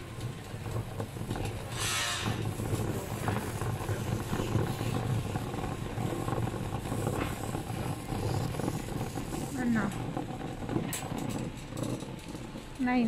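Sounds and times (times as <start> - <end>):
large store noise: 0.0 - 13.0
shopping carts rolling on concrete: 0.0 - 13.0.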